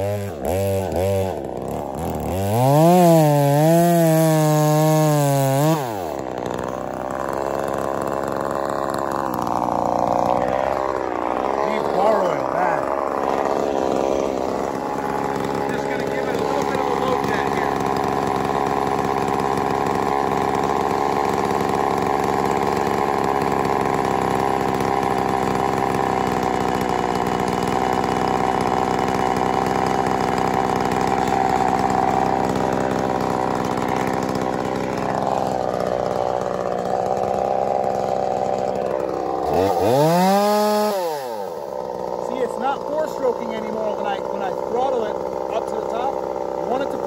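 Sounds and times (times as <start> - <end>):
chainsaw engine idling and revving: 0.0 - 47.0.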